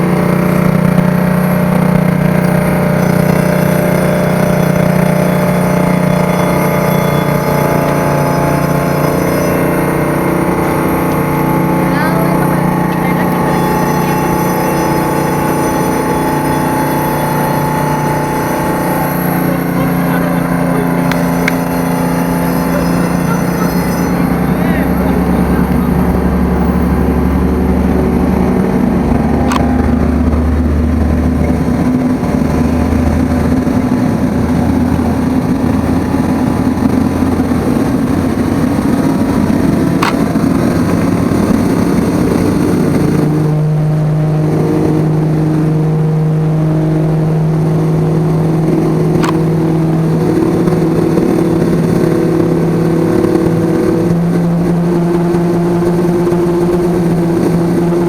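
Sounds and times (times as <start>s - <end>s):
droning engine: 0.0s - 58.0s.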